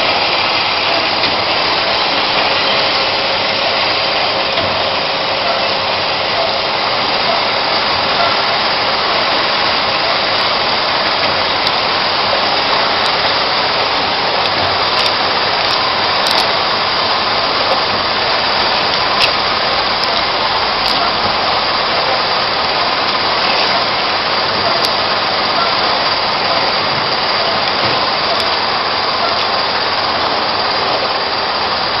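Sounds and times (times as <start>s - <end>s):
machine motor whirring: 0.0s - 32.0s.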